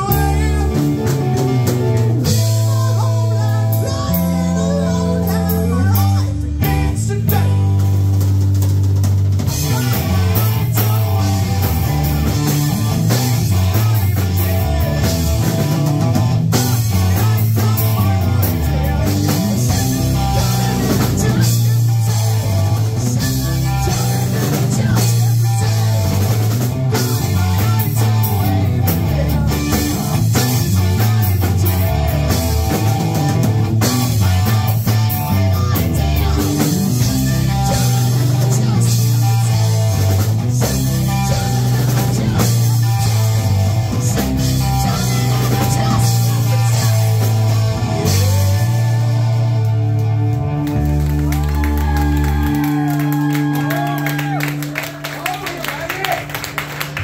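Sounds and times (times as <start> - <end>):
distorted electric guitar: 0.0 - 55.2
drum kit: 0.0 - 57.0
electric bass guitar: 0.0 - 57.0.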